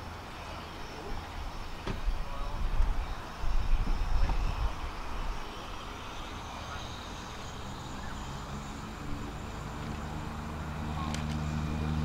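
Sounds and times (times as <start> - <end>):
turboprop engine whine: 0.0 - 12.0.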